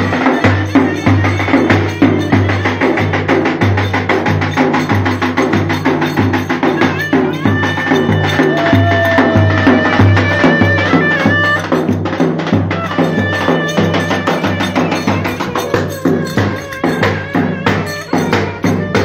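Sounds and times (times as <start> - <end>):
fast clicking percussion: 0.0 - 19.0
wavering high melody: 0.0 - 19.0.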